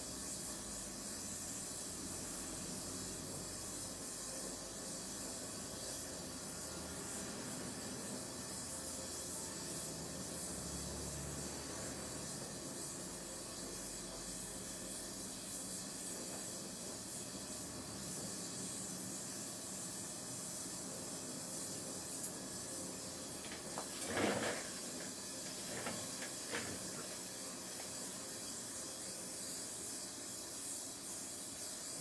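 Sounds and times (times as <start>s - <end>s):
gas torch flame hissing: 0.0s - 32.0s.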